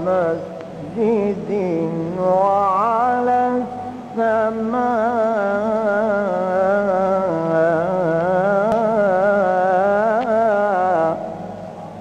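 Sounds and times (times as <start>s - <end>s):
man singing ornamented melisma: 0.0s - 12.0s.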